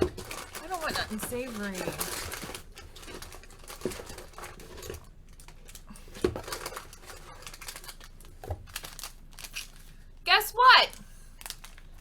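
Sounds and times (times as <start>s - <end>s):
snack packets rustling: 0.0s - 12.0s.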